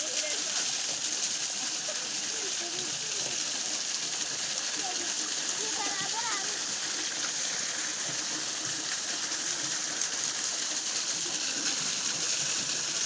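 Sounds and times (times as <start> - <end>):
spring water running: 0.0 - 13.0.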